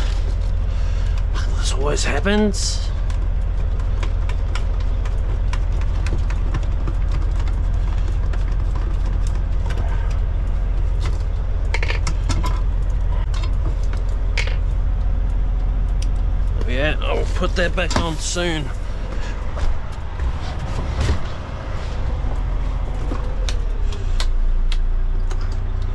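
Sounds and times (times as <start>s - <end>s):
diesel truck engine idling: 0.0s - 25.9s.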